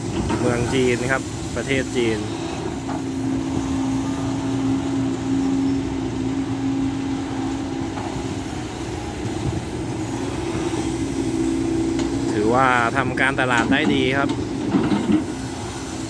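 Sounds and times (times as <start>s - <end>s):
excavator engine and hydraulics humming: 0.0s - 16.0s.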